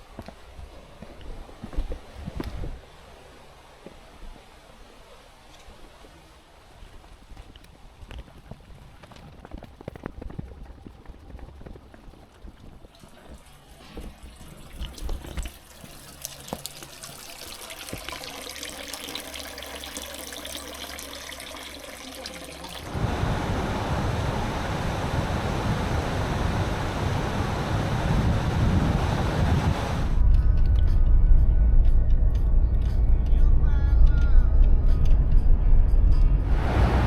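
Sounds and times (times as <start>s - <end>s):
running water: 0.0s - 30.2s.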